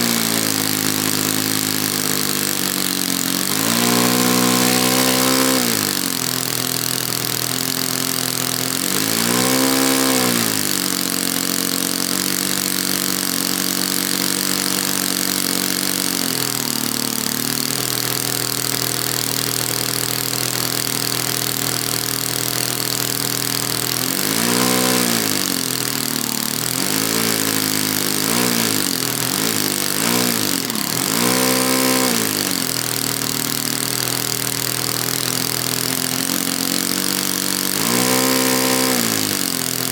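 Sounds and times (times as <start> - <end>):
model airplane engine idling: 0.0 - 39.9
model engine revving: 0.0 - 39.9.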